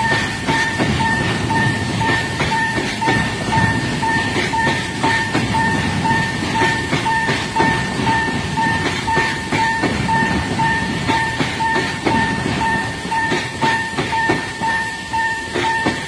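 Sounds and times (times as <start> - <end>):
freight train rumbling: 0.0 - 16.0
train wheels clicking on rail joints: 0.0 - 16.0.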